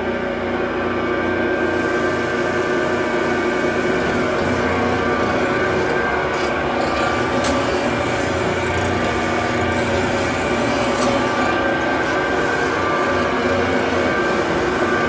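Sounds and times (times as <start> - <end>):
knife grinder machine whine: 0.0 - 15.0.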